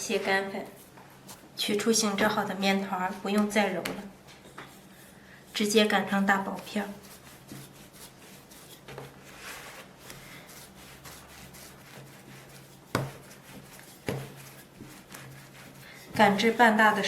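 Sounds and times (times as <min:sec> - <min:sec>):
rolling pin rolling dough: 0:00.0 - 0:17.0.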